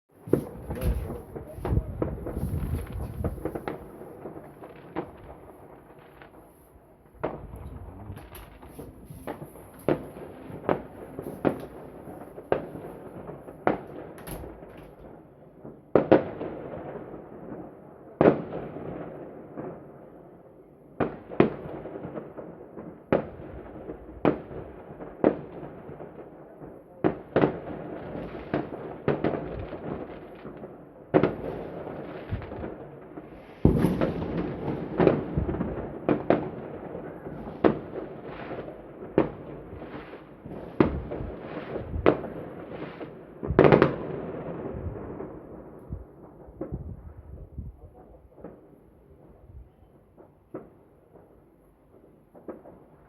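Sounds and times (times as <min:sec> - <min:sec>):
fireworks bursting with bangs: 0:00.1 - 0:53.0.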